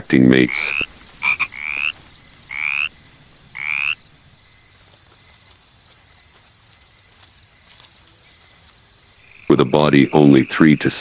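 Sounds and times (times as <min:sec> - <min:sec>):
frog calling: 0:00.0 - 0:11.0.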